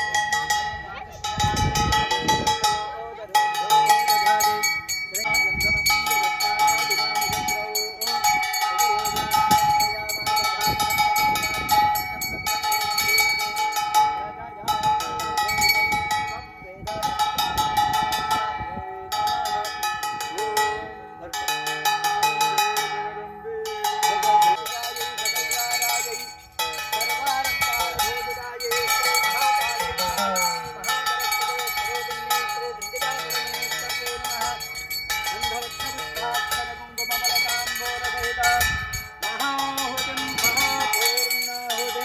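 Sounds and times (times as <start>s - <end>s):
metal bells ringing: 0.0s - 42.0s.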